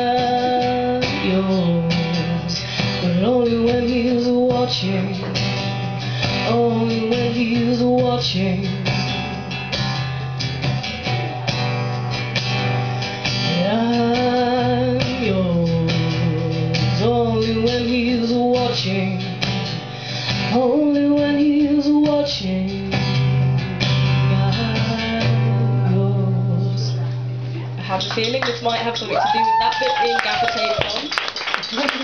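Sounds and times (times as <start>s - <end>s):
strummed acoustic guitar: 0.0s - 29.1s.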